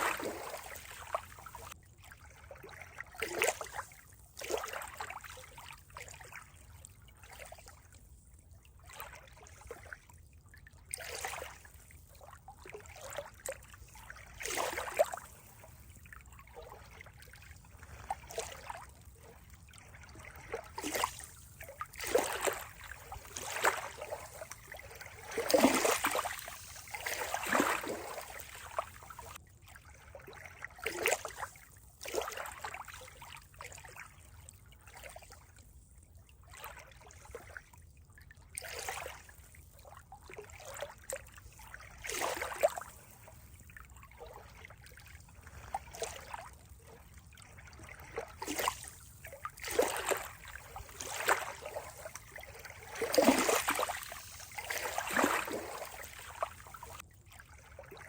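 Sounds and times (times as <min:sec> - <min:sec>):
water trickling and gurgling: 0:00.0 - 0:58.0.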